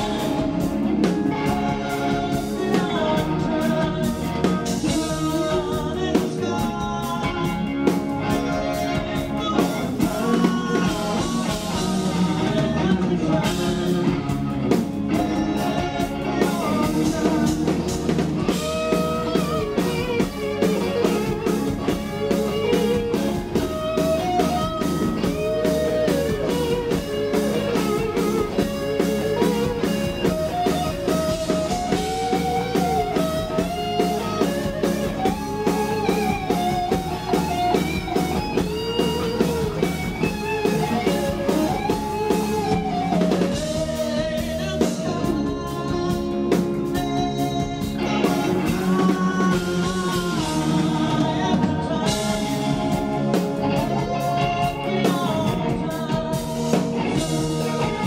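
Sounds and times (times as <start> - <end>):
electric guitar melody: 0.0 - 58.0
live rock band playing: 0.0 - 58.0.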